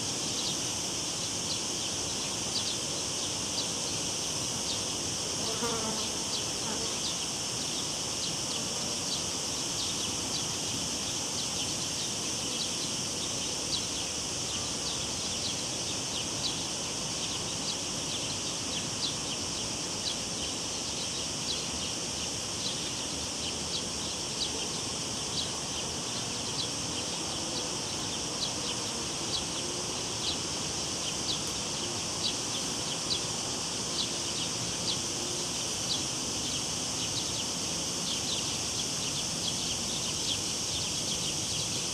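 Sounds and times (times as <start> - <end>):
cicadas droning: 0.0 - 41.9.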